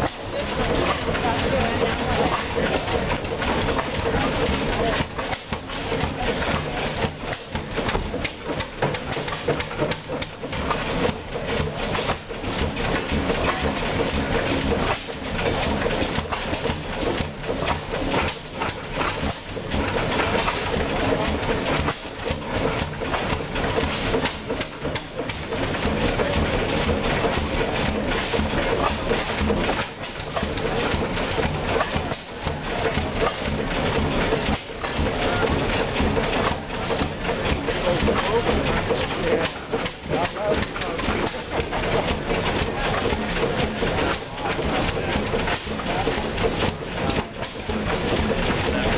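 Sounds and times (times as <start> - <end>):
stationary gas engine clattering: 0.0 - 48.9.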